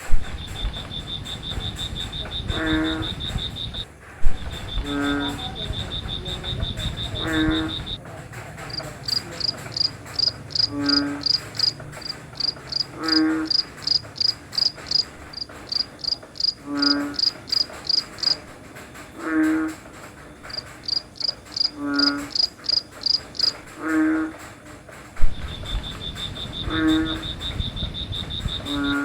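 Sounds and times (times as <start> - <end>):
frog croaking: 0.0 - 18.5, 19.2 - 24.4, 25.3 - 29.0
crickets chirping: 0.0 - 24.1, 25.2 - 29.0.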